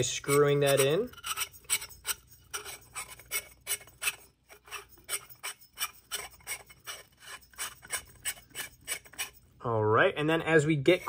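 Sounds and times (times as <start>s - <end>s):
metal threads rasping: 0.0s - 9.6s.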